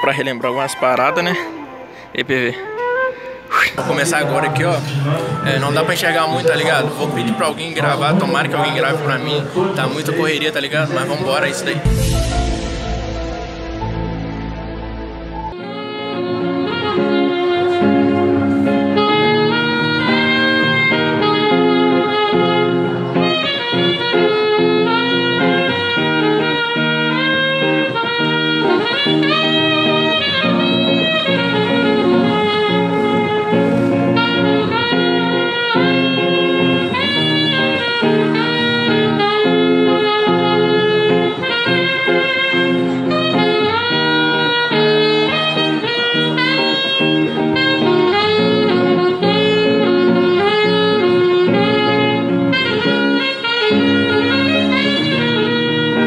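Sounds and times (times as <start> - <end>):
sustained backing accompaniment: 0.0 - 56.0
saxophone playing slow melody: 2.6 - 7.4, 11.8 - 56.0.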